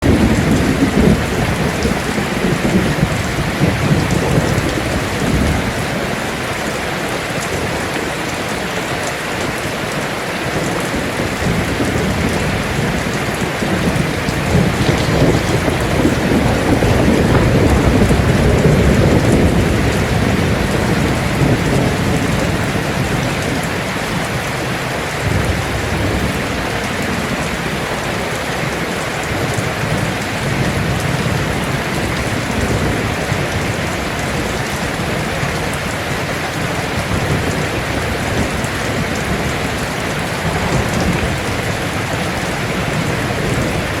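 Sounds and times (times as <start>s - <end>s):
heavy rain on a metal roof: 0.0s - 44.0s
thunder rumbling: 0.0s - 44.0s.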